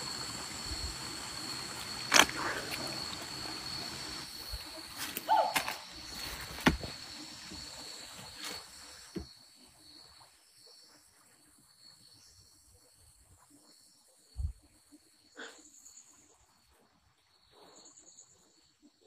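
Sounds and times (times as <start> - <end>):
night insects calling: 0.0 - 19.0.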